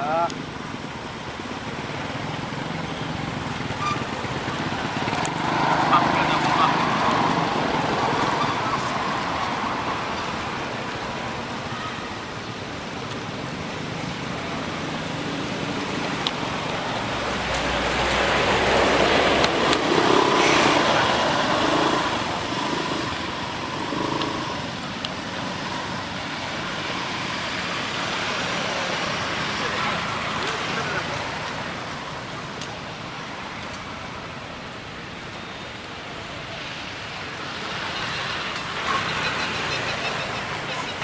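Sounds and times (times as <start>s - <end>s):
outdoor background noise: 0.0s - 41.0s.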